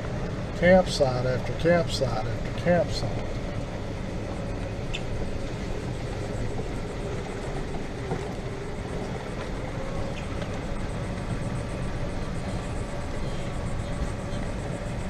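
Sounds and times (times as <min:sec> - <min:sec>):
faint hum: 0:00.0 - 0:15.0
golf cart rumble: 0:00.0 - 0:15.0.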